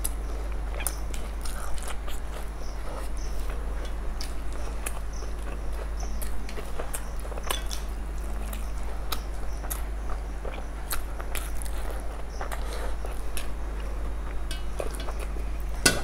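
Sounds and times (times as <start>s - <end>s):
fingers squishing rice on plates: 0.0s - 16.0s
people chewing food: 0.0s - 16.0s.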